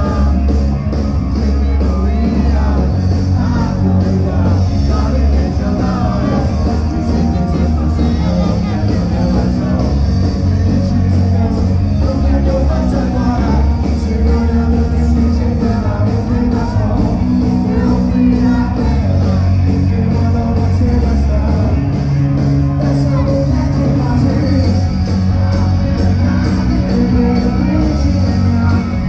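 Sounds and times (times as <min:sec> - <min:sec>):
live rock band playing: 0:00.0 - 0:29.0
person singing: 0:00.0 - 0:29.0.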